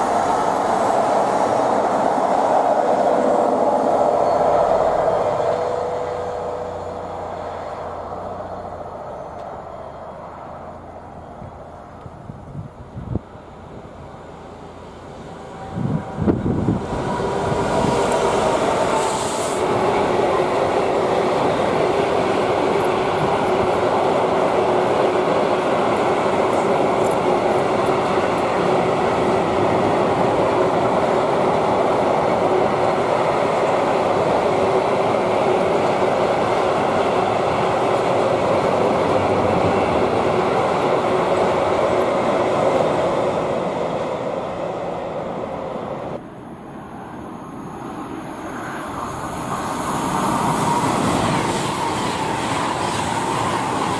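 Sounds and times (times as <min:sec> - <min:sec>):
train wheels rumbling on rail: 0:00.0 - 0:46.2, 0:48.1 - 0:53.9.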